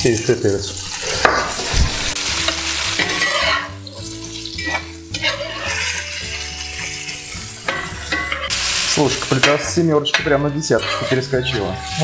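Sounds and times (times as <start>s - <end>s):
vegetables sizzling in oil: 0.0s - 10.0s, 10.6s - 12.0s
spatula stirring and tossing: 0.0s - 12.0s.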